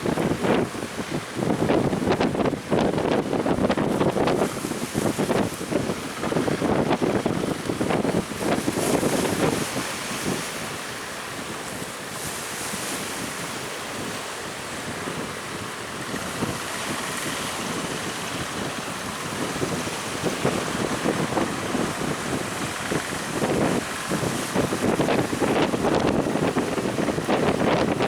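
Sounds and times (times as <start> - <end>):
sea waves: 0.0 - 28.0
strong wind gusting: 0.0 - 28.0.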